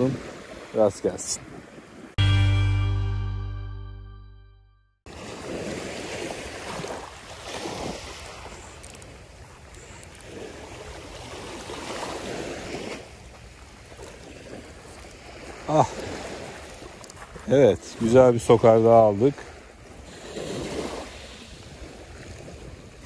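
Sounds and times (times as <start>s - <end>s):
sea waves washing ashore: 0.0s - 2.2s, 5.1s - 23.0s.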